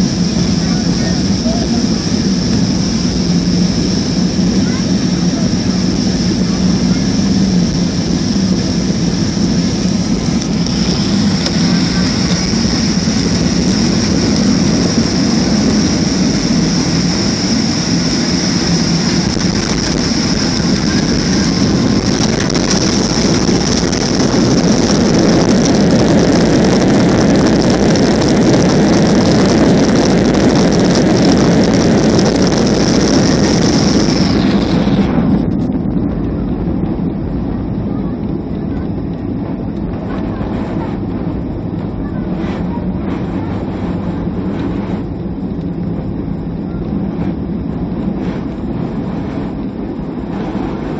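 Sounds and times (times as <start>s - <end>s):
jet engine cabin rush: 0.0s - 50.9s.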